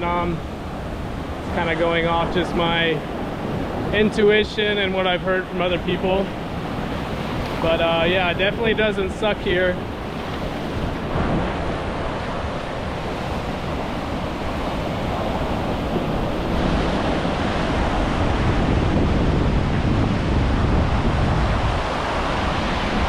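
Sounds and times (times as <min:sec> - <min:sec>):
sea surf washing onto beach: 0:00.0 - 0:23.0
wind buffeting microphone: 0:00.0 - 0:23.0.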